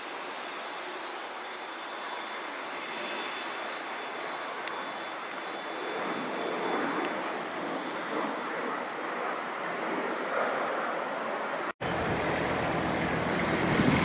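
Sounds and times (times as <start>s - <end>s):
faint high whine: 0.0s - 14.0s
jet engines rushing: 0.0s - 14.0s.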